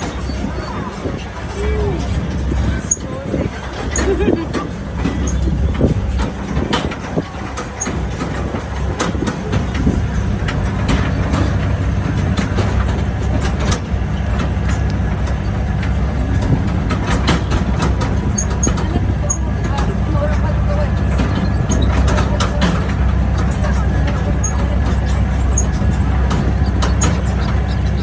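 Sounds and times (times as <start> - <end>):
rattles and knocks: 0.0 - 28.0
tractor engine running: 0.0 - 28.0.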